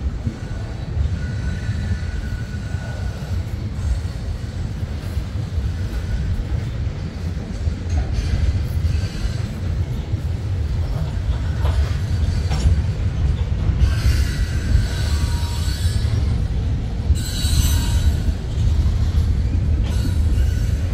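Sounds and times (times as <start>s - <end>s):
freight train cars rumbling: 0.0s - 20.9s
train wheel squeal: 0.0s - 20.9s.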